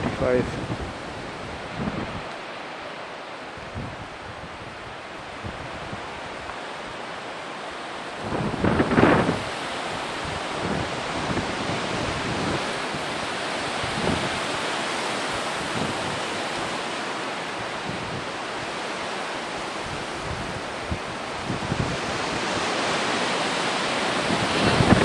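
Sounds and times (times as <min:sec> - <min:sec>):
low wind buffets on microphone: 0:00.0 - 0:25.0
wind rushing hiss: 0:00.0 - 0:25.0.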